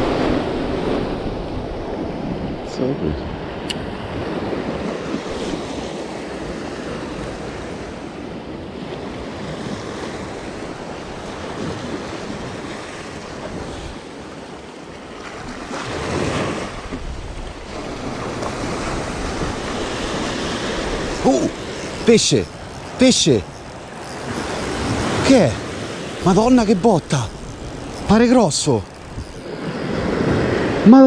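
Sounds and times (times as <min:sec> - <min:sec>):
waves washing on a beach: 0:00.0 - 0:31.0.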